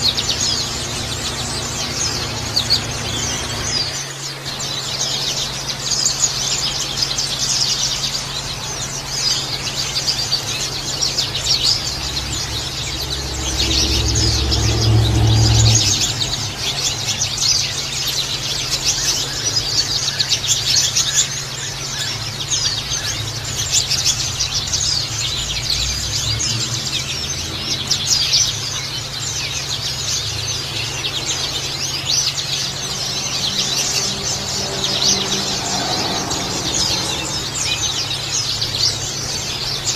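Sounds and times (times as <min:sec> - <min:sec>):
songbirds chirping: 0:00.0 - 0:39.9
steady low hum: 0:00.0 - 0:39.9.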